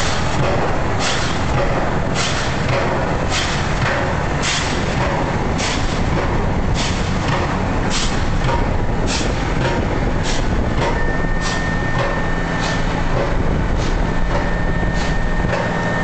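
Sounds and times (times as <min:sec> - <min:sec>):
vehicle road noise: 0:00.0 - 0:16.0.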